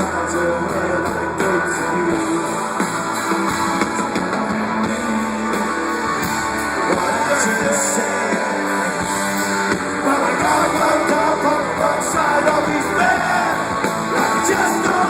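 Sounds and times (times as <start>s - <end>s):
person singing: 0.0s - 9.0s, 10.0s - 15.0s
rock band playing: 0.0s - 15.0s.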